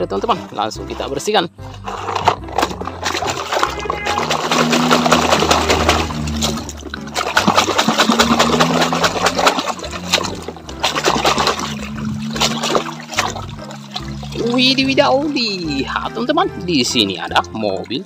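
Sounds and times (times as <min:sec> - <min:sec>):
muddy water splashing and sloshing: 0:00.0 - 0:18.0.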